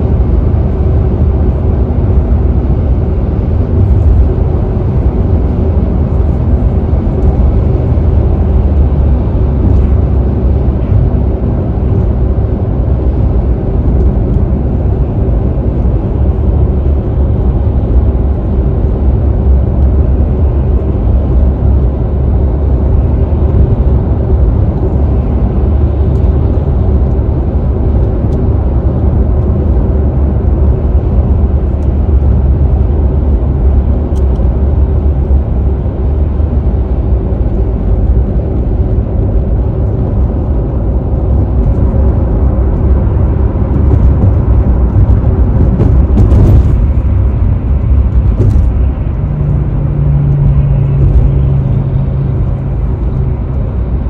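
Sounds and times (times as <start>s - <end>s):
car engine rumble: 0.0s - 54.0s
tyre and road noise: 0.0s - 54.0s.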